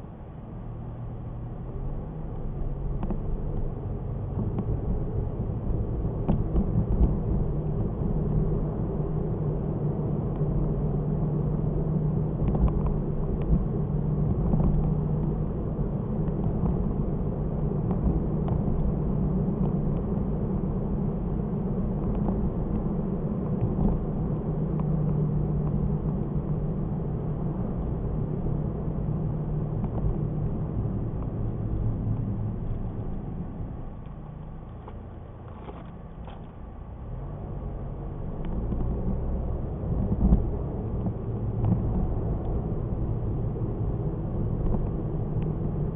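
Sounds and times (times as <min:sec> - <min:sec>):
car engine and road rumble: 0:00.0 - 0:45.9.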